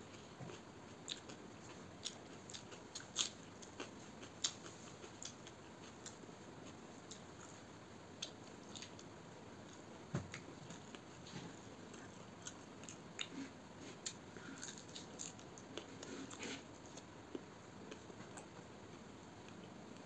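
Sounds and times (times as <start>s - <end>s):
chewing: 0.1s - 7.6s, 8.2s - 18.6s.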